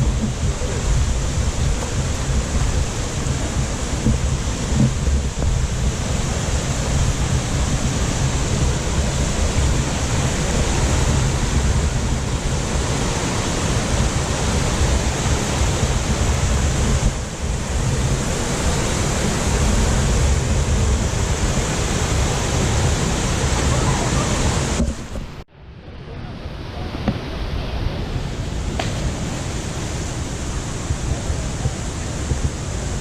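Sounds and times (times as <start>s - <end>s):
waterfall roaring: 0.0s - 25.4s, 26.3s - 33.0s
wind buffeting microphone: 0.0s - 25.5s, 26.2s - 33.0s.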